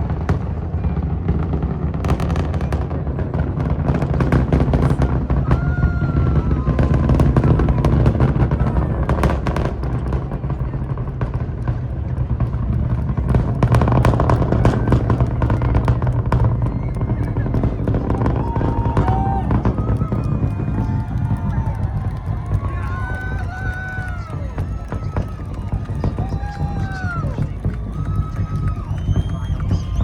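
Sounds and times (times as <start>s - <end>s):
rocket rumble with crackling: 0.0s - 30.0s.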